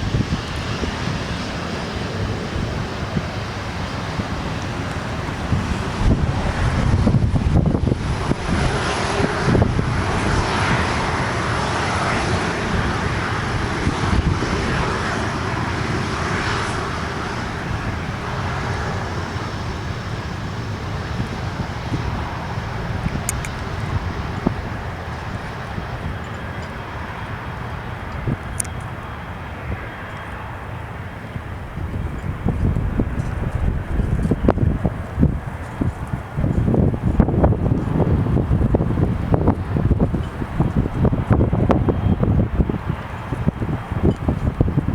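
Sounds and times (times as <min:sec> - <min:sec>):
jet airliner engines passing: 0:00.0 - 0:44.9
wind buffeting microphone: 0:00.0 - 0:44.9.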